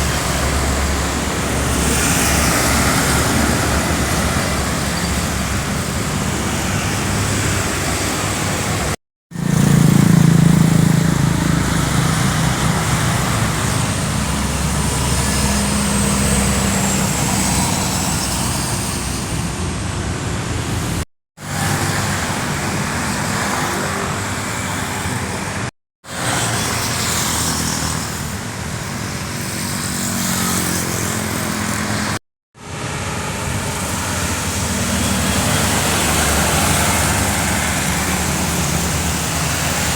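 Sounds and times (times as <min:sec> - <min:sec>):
diesel truck engines labouring: 0:00.0 - 0:39.9.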